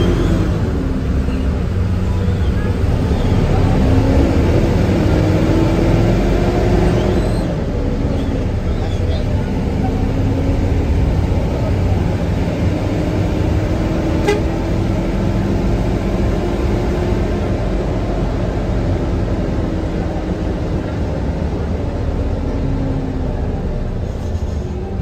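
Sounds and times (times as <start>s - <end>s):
diesel bus engine rumble: 0.0s - 25.0s.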